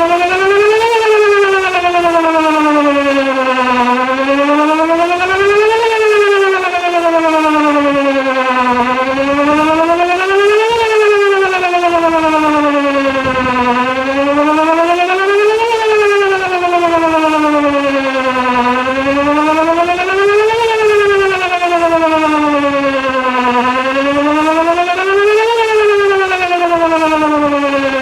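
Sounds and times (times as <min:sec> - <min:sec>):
warning siren wailing: 0:00.0 - 0:28.0.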